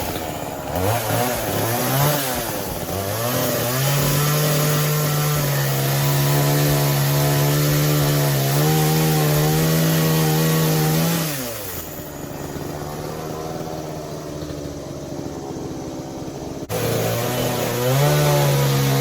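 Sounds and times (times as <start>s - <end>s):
chainsaw running: 0.0s - 19.0s.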